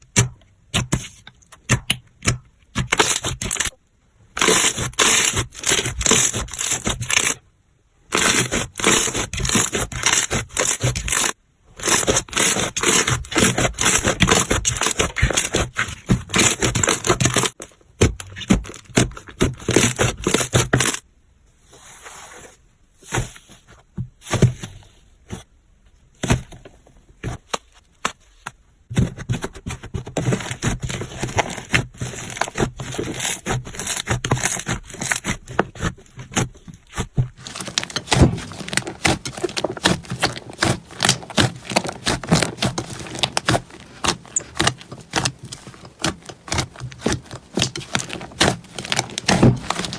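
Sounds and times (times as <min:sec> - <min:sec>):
slime scraping: 0:00.1 - 0:07.4, 0:08.1 - 0:21.0, 0:29.0 - 0:49.9.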